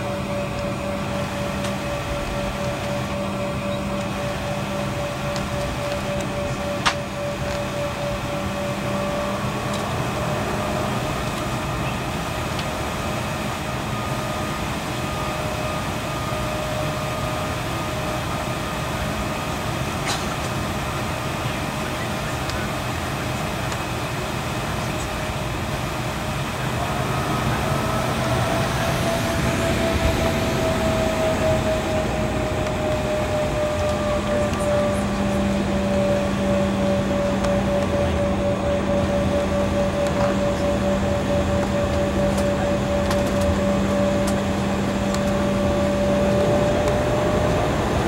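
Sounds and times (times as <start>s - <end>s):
jet engine hum: 0.0s - 48.0s.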